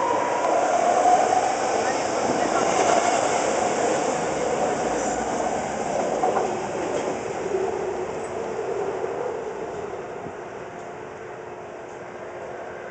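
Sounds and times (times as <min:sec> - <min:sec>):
train wheels rumbling on rails: 0:00.0 - 0:12.9
train whine sliding lower: 0:00.0 - 0:12.9.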